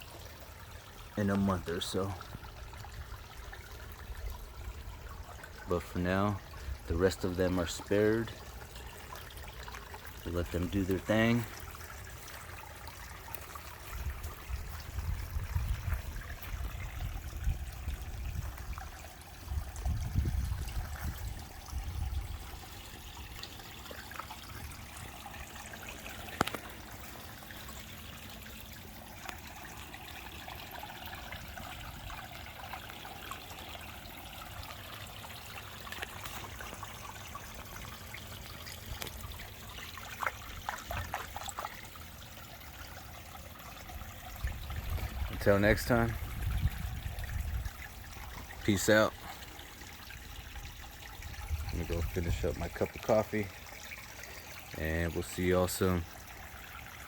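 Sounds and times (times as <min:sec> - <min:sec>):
pond water trickling: 0:00.0 - 0:57.0.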